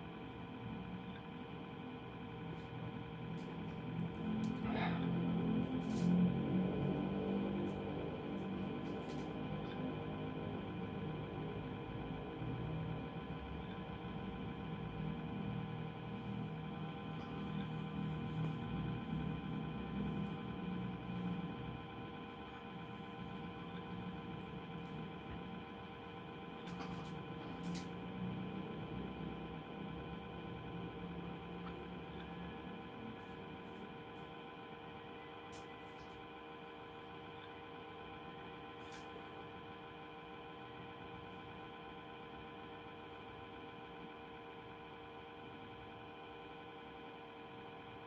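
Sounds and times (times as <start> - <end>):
droning hum: 0.0 - 48.0.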